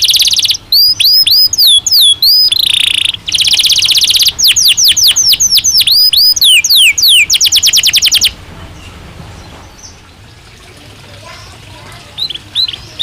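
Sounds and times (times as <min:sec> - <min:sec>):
canary singing: 0:00.0 - 0:10.2, 0:11.3 - 0:13.0.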